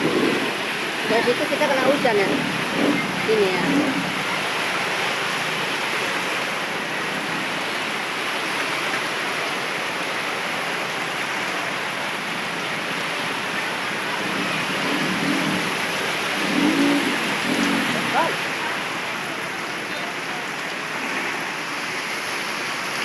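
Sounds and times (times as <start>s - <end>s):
heavy rain falling: 0.0s - 23.0s
water pouring off roof: 0.0s - 23.0s.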